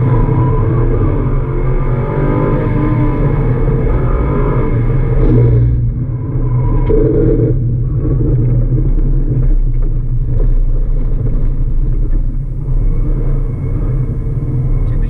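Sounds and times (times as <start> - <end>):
car engine drone from inside cabin: 0.0 - 15.0.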